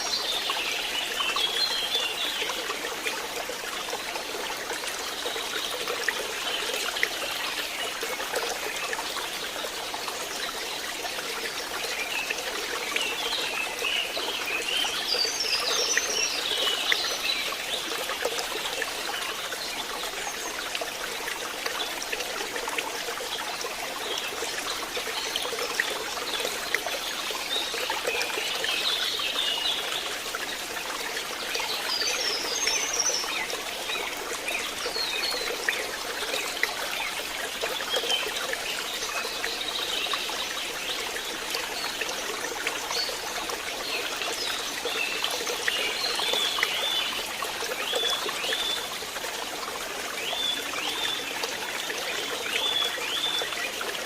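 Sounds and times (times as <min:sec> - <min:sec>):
stream trickling and splashing: 0:00.0 - 0:54.0.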